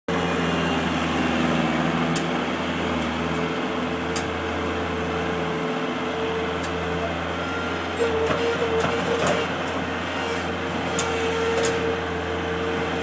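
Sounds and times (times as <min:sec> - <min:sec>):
heavy machinery engine running: 0:00.1 - 0:13.0.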